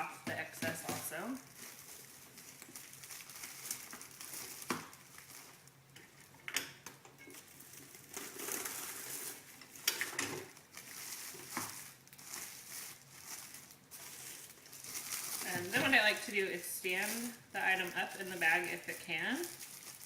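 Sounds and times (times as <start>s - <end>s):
plastic film crinkling: 0.0s - 20.0s.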